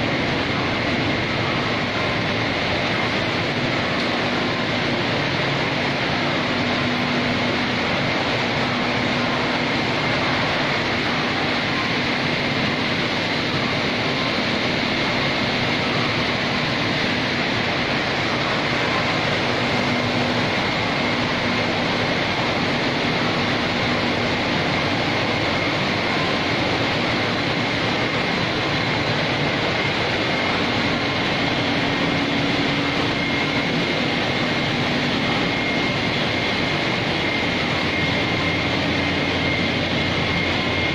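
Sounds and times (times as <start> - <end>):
faint high whine: 0.0 - 40.9
steady machine noise: 0.0 - 40.9.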